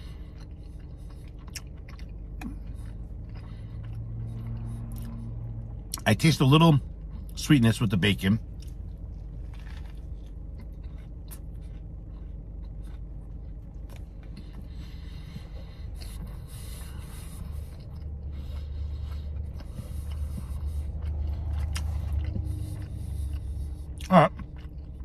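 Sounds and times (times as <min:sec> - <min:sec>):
person chewing food: 0:00.0 - 0:25.0
car cabin hum: 0:02.1 - 0:25.0.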